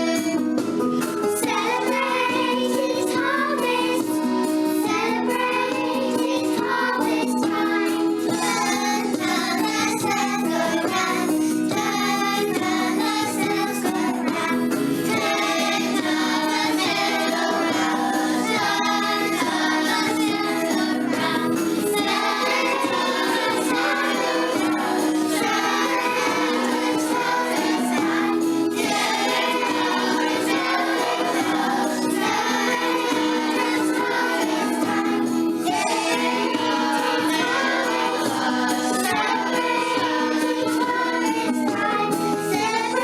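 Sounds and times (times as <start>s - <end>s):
children singing together: 0.0s - 0.4s, 1.3s - 43.0s
musical accompaniment: 0.0s - 43.0s.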